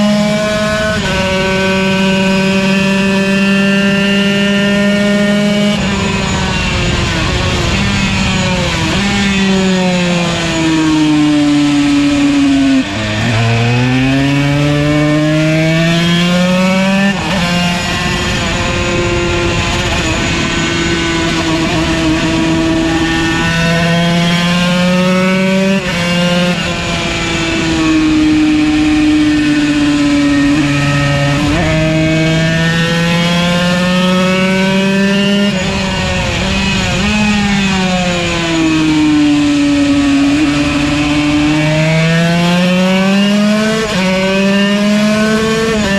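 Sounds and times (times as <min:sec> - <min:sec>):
two-stroke race engine revving: 0:00.0 - 0:45.9.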